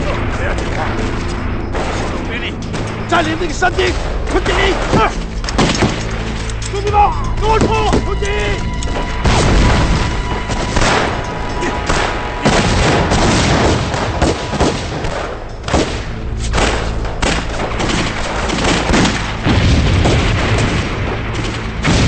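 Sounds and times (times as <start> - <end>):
rifle fire: 0.0 - 3.1, 3.8 - 6.6, 9.2 - 22.0
explosions: 0.0 - 6.3, 8.9 - 22.0
dramatic background music: 0.0 - 22.0.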